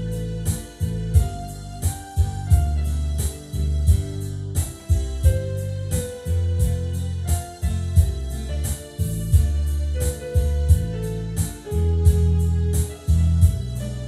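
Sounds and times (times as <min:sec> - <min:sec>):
percussive beat: 0:00.0 - 0:13.9
held bass notes: 0:00.0 - 0:14.0
keyboard melody: 0:00.0 - 0:14.0.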